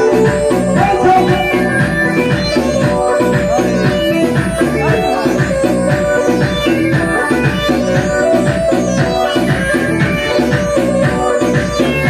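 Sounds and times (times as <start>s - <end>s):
dance music with steady beat: 0.0s - 12.0s
plucked string melody: 0.0s - 12.0s.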